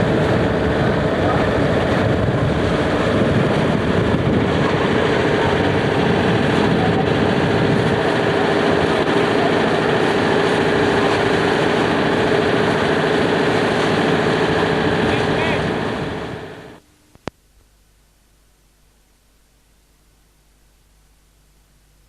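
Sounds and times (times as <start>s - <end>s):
boat motor running: 0.0s - 18.4s.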